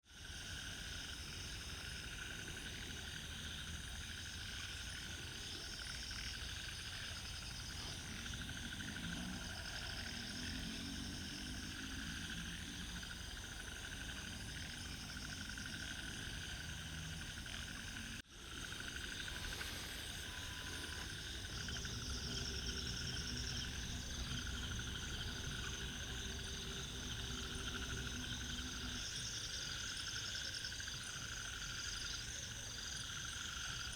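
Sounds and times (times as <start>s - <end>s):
background frogs and insects: 0.0s - 33.9s
frogs rattling pulses: 0.1s - 33.9s.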